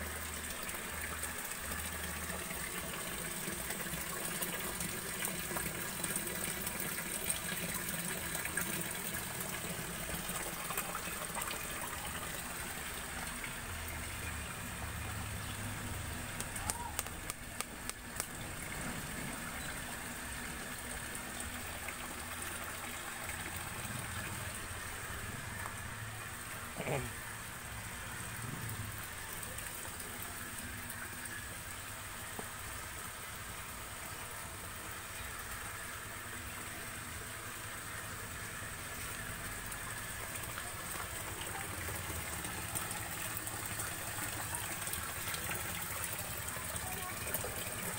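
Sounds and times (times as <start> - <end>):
running water in a tank: 0.0 - 47.9.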